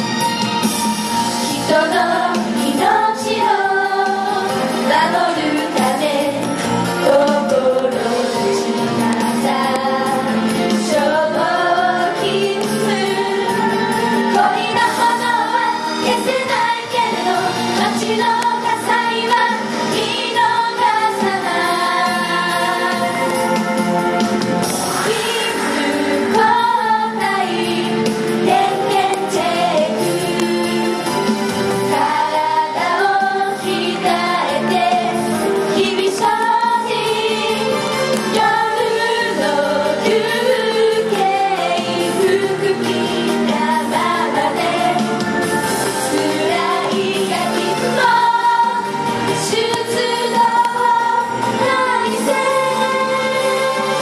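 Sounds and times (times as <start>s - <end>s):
girls singing in unison: 1.4s - 23.6s, 25.0s - 31.0s, 31.9s - 54.0s.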